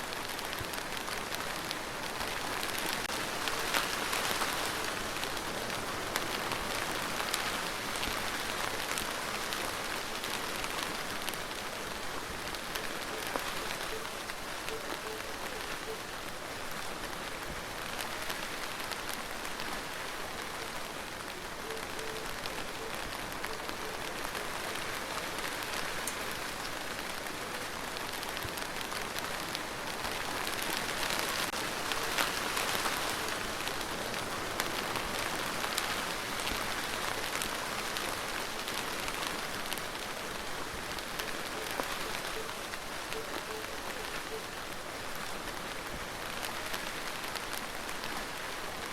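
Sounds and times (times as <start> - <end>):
rain falling on a surface: 0.0 - 48.9.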